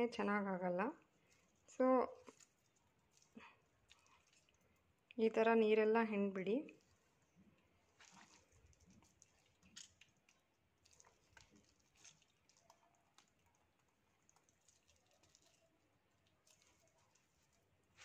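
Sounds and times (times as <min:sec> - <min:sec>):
fingers squeezing wet food: 0:01.0 - 0:05.2, 0:06.7 - 0:18.0.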